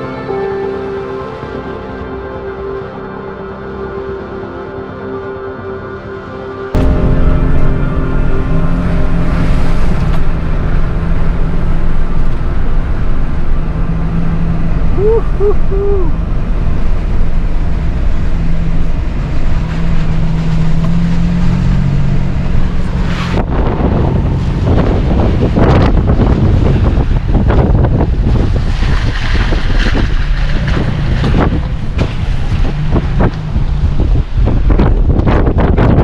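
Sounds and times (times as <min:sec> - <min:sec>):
vehicle engine humming: 0:00.0 - 0:36.0
wind buffeting microphone: 0:06.8 - 0:36.0.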